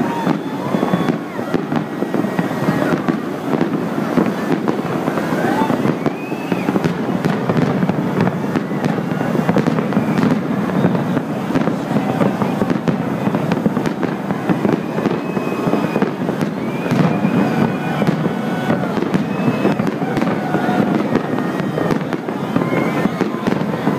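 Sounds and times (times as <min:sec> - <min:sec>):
faint firework whistling: 0:00.0 - 0:23.9
fireworks bangs and crackling: 0:00.0 - 0:23.9.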